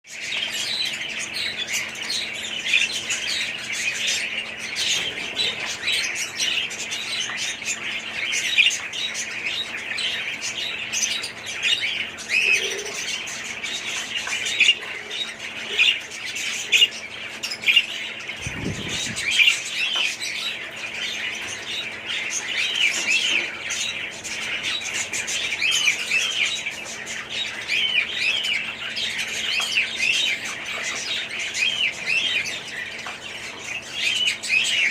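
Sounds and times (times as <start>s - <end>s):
budgerigars chattering and chirping: 0.1s - 34.9s.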